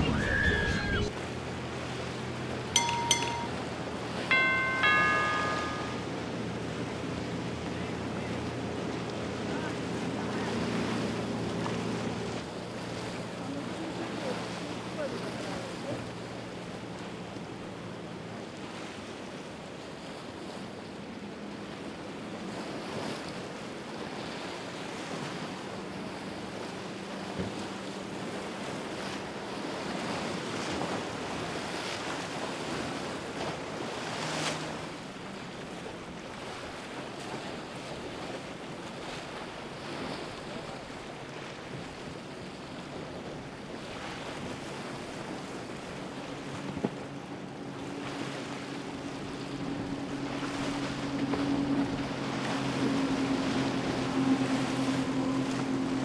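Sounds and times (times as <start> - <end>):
choppy water washing: 0.0 - 56.0
powerboat engines humming: 0.0 - 56.0
water splashes: 0.0 - 56.0.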